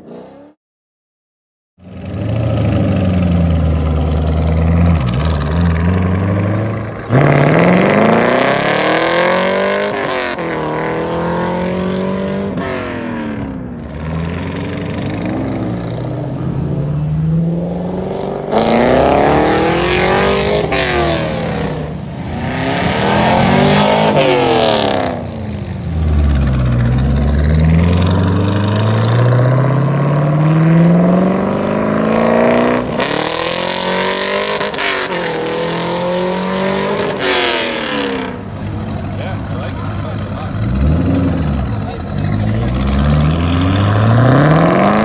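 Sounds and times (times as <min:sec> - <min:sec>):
car engine revving hard: 0:02.0 - 0:45.0.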